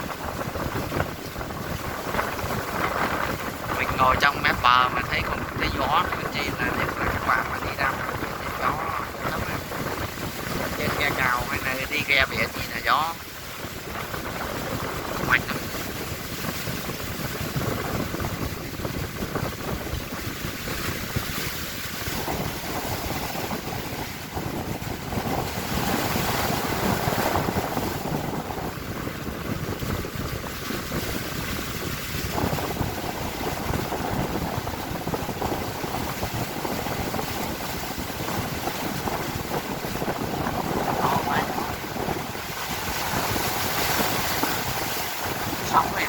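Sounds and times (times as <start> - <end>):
waves washing against boat: 0.0 - 46.0
wind buffeting microphone: 0.0 - 46.0.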